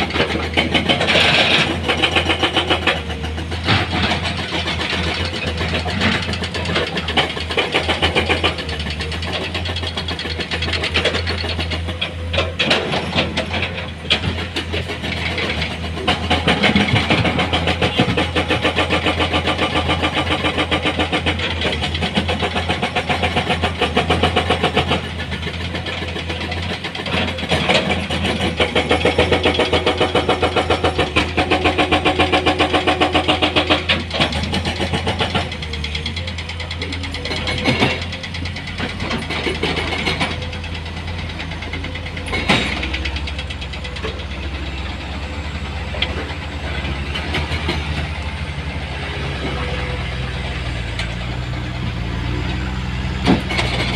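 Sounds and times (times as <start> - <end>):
diesel engine pulsing: 0.0 - 53.9.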